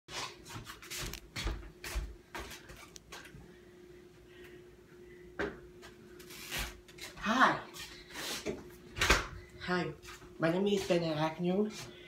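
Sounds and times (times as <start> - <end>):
faint steady hum: 0.4 - 12.0.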